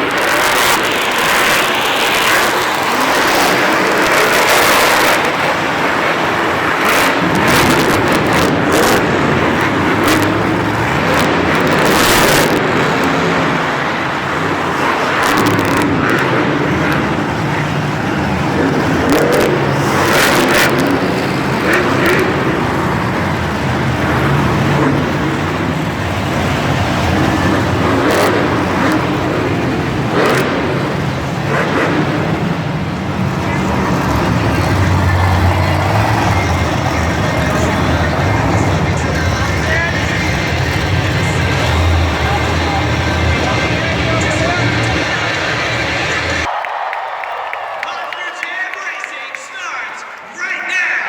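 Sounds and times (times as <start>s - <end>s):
monster truck engines revving: 0.0s - 51.0s.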